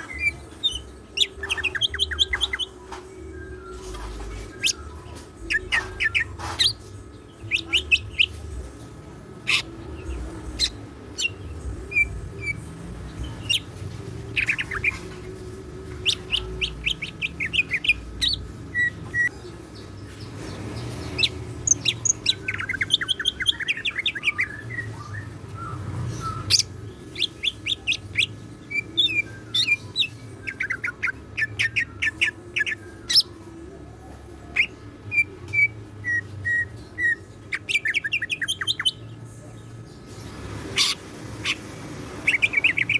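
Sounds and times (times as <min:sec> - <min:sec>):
bird chirping and trilling: 0:00.0 - 0:42.9.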